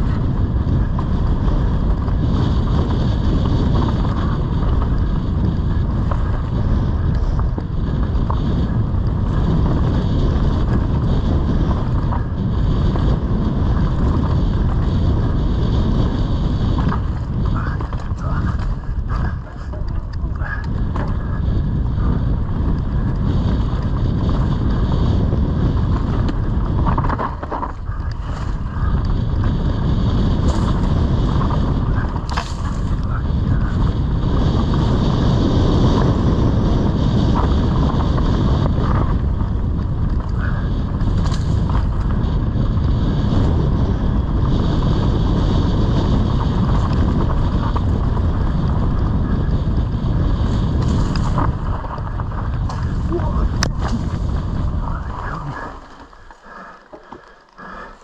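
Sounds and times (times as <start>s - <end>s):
bike rattling over rough ground: 0.0s - 58.0s
tyre rumble: 0.0s - 58.0s
wind noise on microphone: 0.0s - 58.0s.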